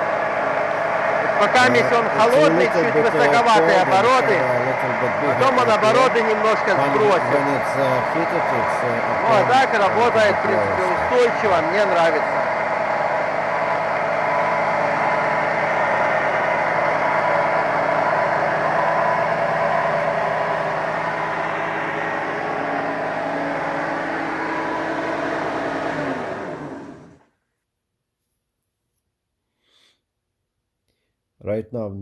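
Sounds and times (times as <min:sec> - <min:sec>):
marine engine idling: 0:00.0 - 0:27.2
engine winding down: 0:00.0 - 0:27.3.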